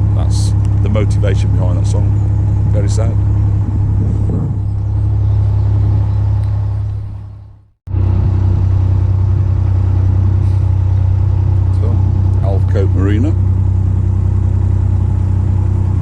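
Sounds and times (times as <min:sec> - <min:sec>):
boat diesel engine humming: 0:00.0 - 0:16.0.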